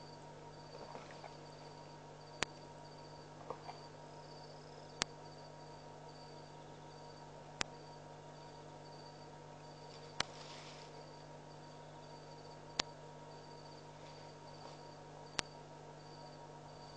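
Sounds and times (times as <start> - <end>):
crickets chirping: 0.0 - 16.9
steady low hum: 0.0 - 16.9.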